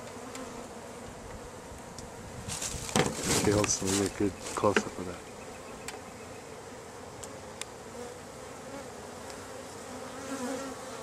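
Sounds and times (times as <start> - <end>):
honey bees buzzing: 0.0 - 11.0.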